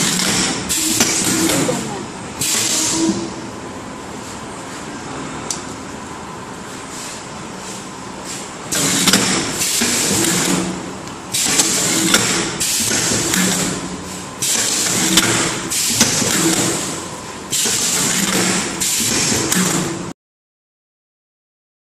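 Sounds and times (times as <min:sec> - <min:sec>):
steady machine hum: 0:00.0 - 0:20.1.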